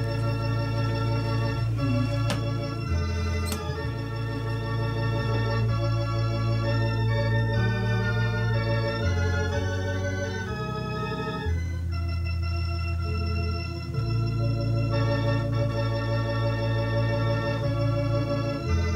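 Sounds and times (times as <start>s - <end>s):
organ playing sustained chords: 0.0s - 18.9s.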